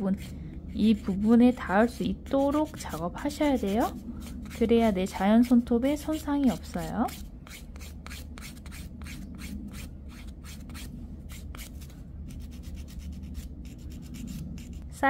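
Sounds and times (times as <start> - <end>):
nail file rubbing on fingernail: 0.0 - 14.8.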